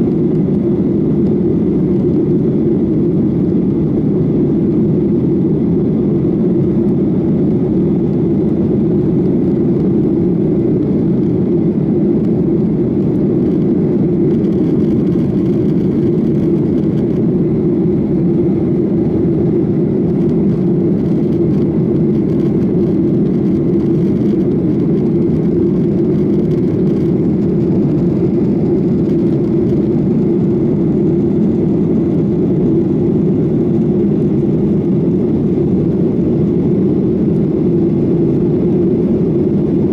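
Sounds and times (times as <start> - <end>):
jet engines running steadily: 0.0 - 39.9.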